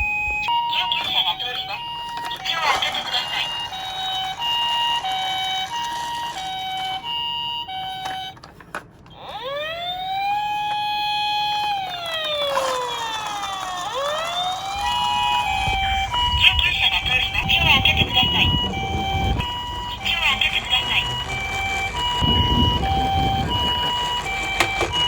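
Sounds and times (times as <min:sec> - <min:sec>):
police car siren wailing: 0:00.0 - 0:25.0
two-tone ambulance siren: 0:00.0 - 0:25.0.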